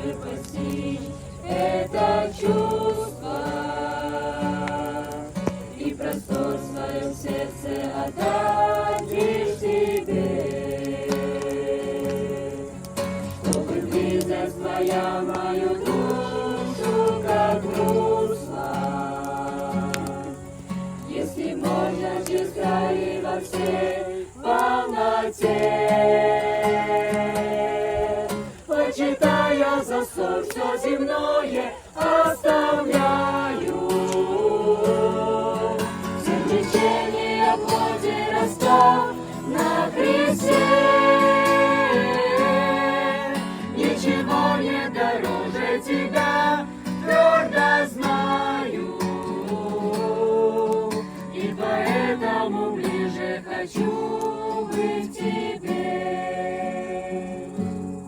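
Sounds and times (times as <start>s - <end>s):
group singing a hymn: 0.0s - 58.0s.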